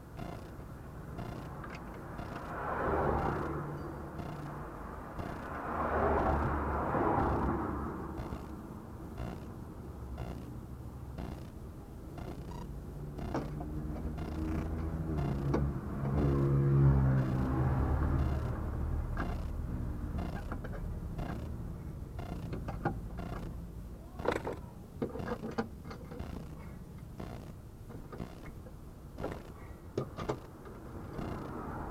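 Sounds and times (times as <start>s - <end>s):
suspension knocks and creaks: 0.0s - 21.6s, 22.2s - 31.9s
car engine: 0.0s - 31.9s.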